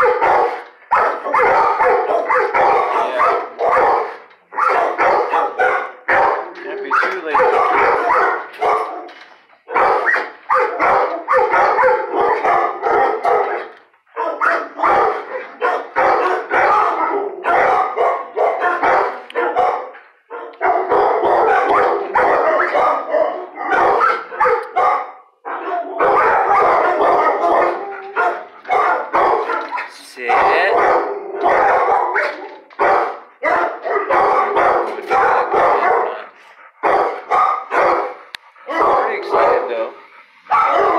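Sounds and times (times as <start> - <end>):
dogs barking and howling: 0.0 - 40.9.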